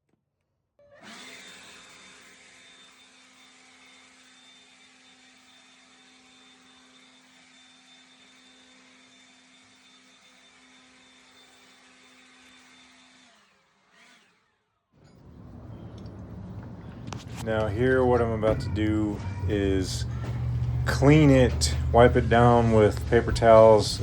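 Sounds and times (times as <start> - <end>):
power tool motor whirring: 0.8 - 24.0.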